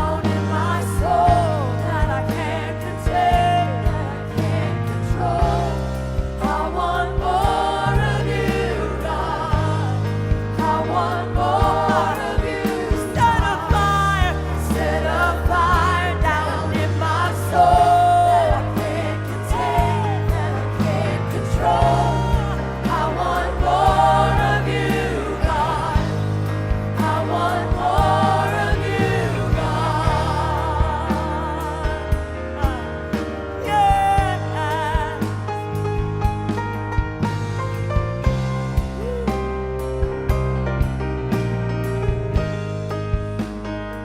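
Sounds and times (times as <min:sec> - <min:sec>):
voices singing gospel song: 0:00.0 - 0:36.1
instrumental accompaniment with bass: 0:00.0 - 0:44.0.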